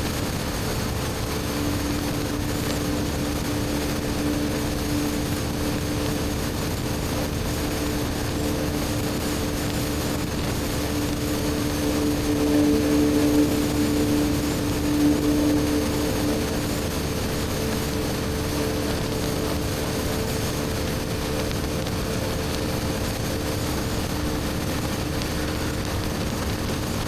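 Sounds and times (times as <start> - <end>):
motorcycle engine humming: 0.0 - 27.0
wind and road noise: 0.0 - 27.0.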